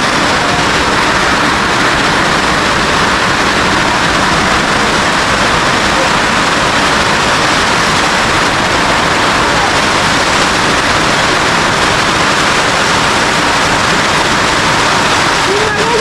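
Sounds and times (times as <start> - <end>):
heavy rain on a roof: 0.0 - 16.0.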